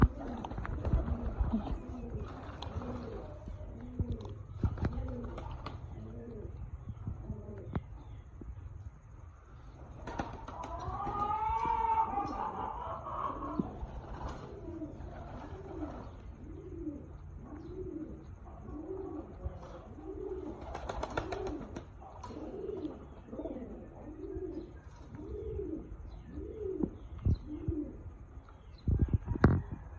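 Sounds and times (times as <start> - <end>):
pigeon cooing: 0.0 - 8.2, 9.8 - 28.2
small birds chirping: 0.0 - 11.4, 12.1 - 29.8.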